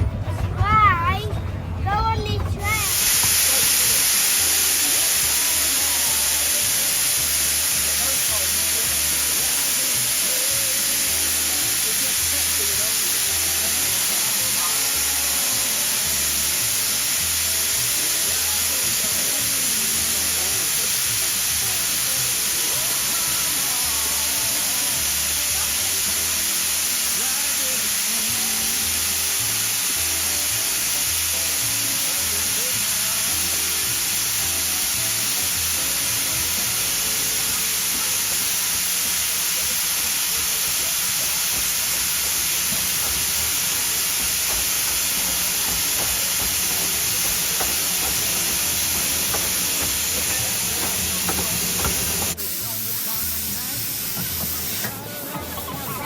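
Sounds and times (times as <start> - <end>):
music playing: 0.0 - 56.0
loud steady hiss: 2.0 - 56.0.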